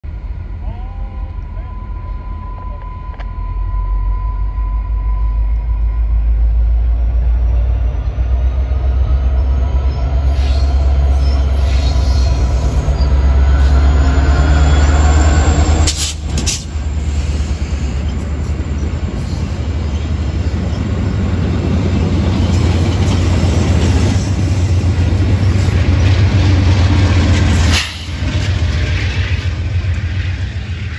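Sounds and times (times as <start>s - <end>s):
diesel locomotive rumble: 0.0s - 30.9s
train wheels rolling on rails: 5.5s - 30.9s.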